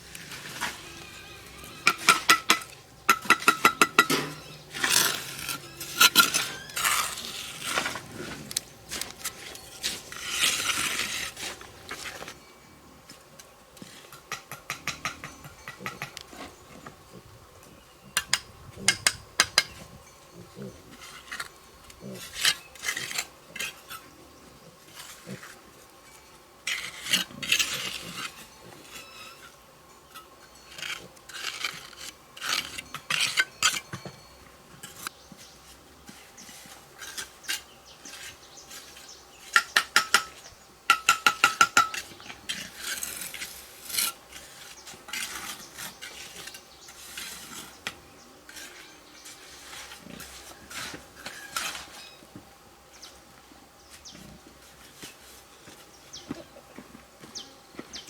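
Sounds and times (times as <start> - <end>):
scraping and rubbing strokes: 0.0 - 12.4, 13.8 - 29.6, 30.2 - 33.9, 34.8 - 40.6, 41.2 - 52.3, 53.9 - 56.2.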